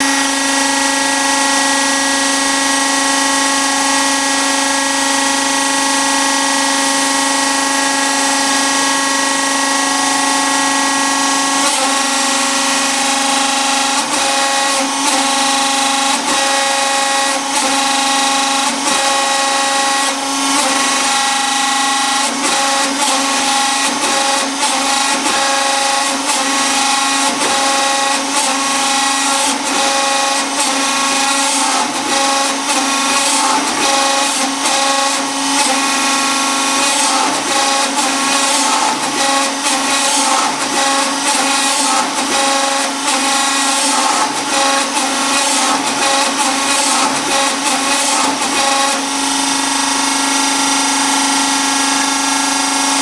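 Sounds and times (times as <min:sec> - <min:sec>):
machine motor whine: 0:00.0 - 0:53.0.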